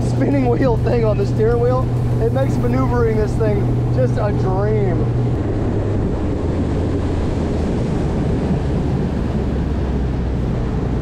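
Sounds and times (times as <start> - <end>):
outboard motor drone: 0.0 - 11.0
wind buffeting microphone: 0.0 - 11.0.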